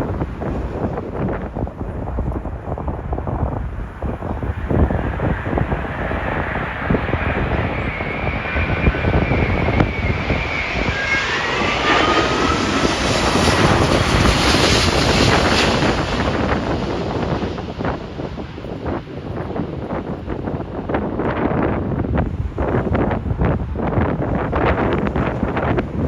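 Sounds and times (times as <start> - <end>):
jet airliner passing overhead: 0.0 - 26.0
wind buffeting microphone: 0.0 - 26.0.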